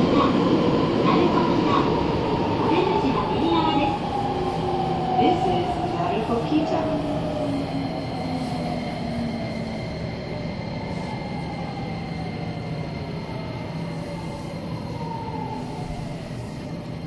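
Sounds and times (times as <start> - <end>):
train electrical hum and whine: 0.0 - 17.0.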